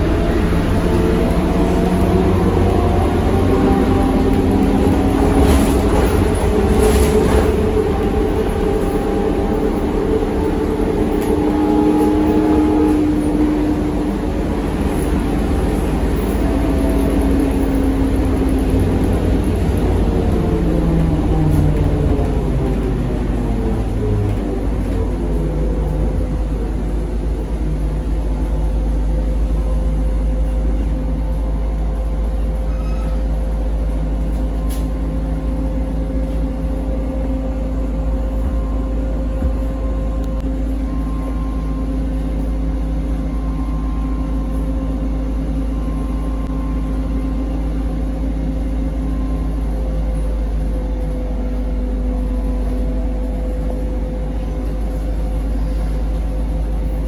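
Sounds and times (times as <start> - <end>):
trolleybus rumble: 0.0 - 57.0.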